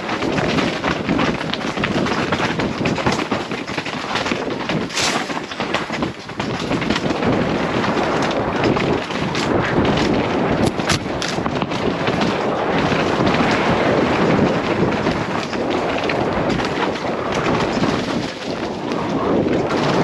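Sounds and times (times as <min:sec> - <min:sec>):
bike rattling over rocks: 0:00.0 - 0:20.0
wind rushing over microphone: 0:00.0 - 0:20.0.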